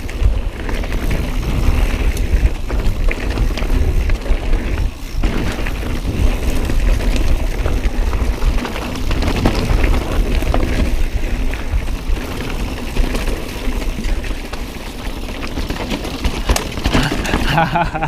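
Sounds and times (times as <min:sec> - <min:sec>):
bike rattles and knocks: 0:00.0 - 0:18.0
bike tyres rumbling on rocks: 0:00.0 - 0:18.0.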